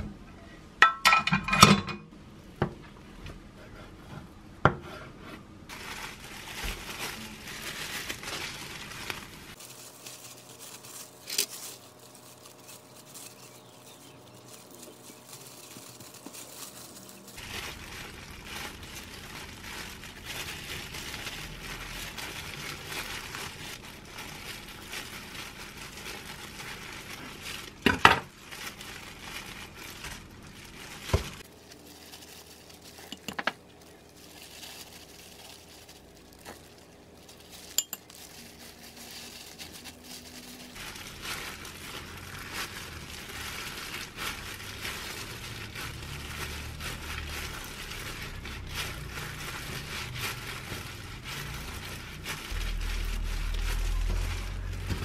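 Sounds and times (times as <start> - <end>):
plastic gloves crinkling: 5.6 - 55.0.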